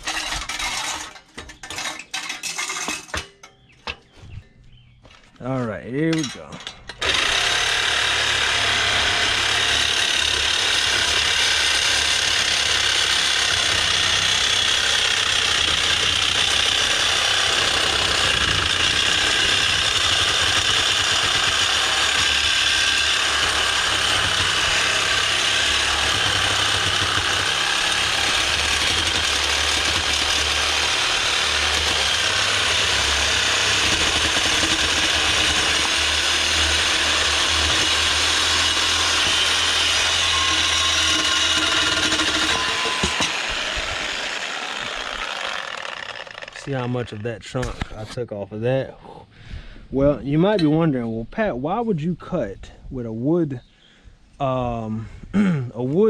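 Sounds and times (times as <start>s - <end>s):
power saw cutting metal pipe: 0.0s - 3.2s, 6.0s - 48.0s.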